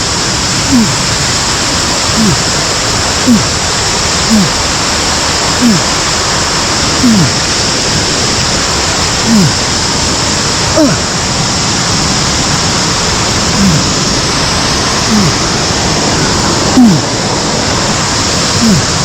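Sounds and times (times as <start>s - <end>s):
mountain stream and waterfall rushing: 0.0s - 19.0s.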